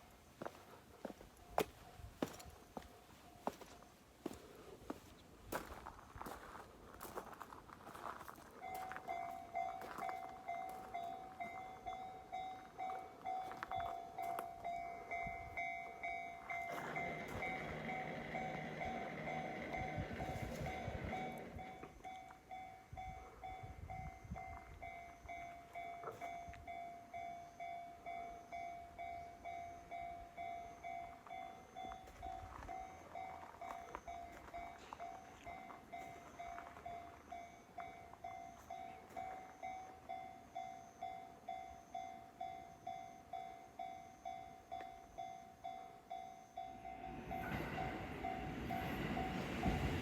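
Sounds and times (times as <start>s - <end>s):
level-crossing warning bell: 0.0s - 4.6s, 7.0s - 50.0s
electric train passing: 8.6s - 50.0s.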